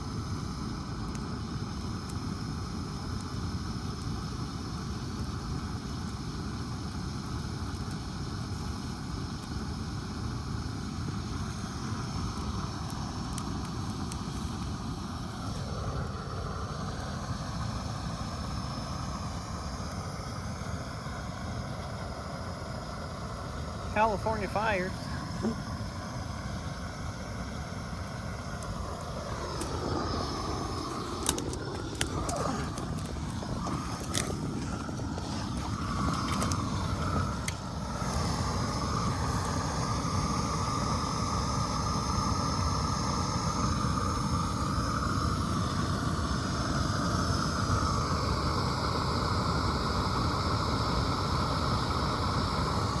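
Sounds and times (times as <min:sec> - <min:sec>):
fire popping: 0:00.0 - 0:49.2
brush fire roaring: 0:00.0 - 0:53.0.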